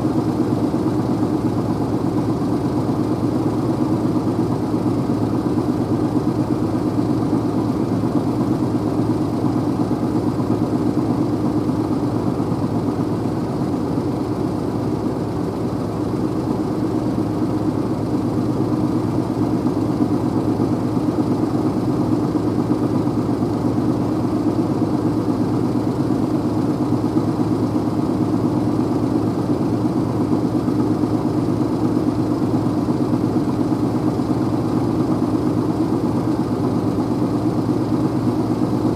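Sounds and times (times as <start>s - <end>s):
engine and road noise drone: 0.0s - 38.9s.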